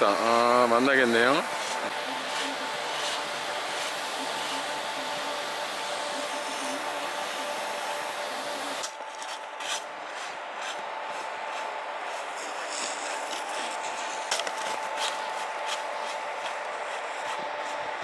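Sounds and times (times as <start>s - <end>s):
skis scraping packed snow: 0.0s - 18.0s.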